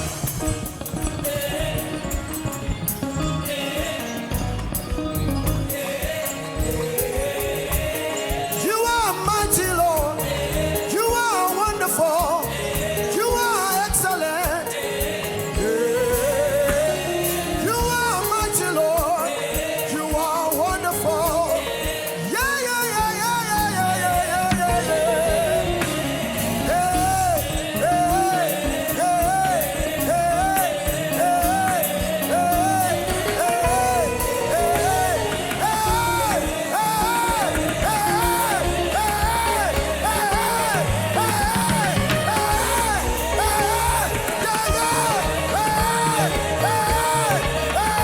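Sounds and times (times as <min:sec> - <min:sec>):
band with drums and cymbals: 0:00.0 - 0:48.0
repeated melody line: 0:00.0 - 0:48.0
high voice singing: 0:05.7 - 0:48.0.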